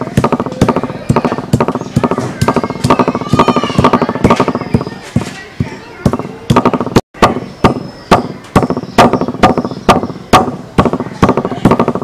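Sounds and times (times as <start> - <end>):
stone pestle pounding on wood: 0.0 - 12.0.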